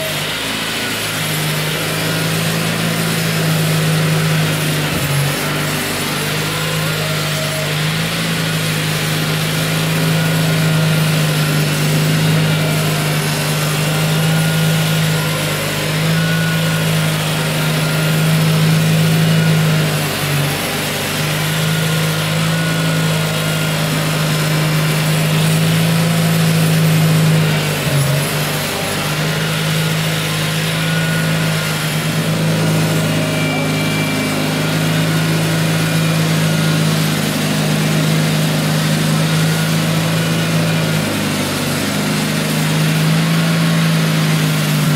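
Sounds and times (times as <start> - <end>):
plow pushing snow: 0.0 - 44.9
tractor engine running: 0.0 - 44.9.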